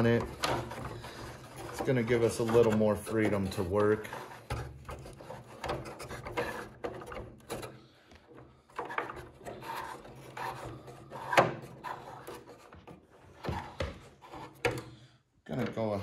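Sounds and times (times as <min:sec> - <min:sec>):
hands rubbing and scraping wood: 0:00.0 - 0:14.9.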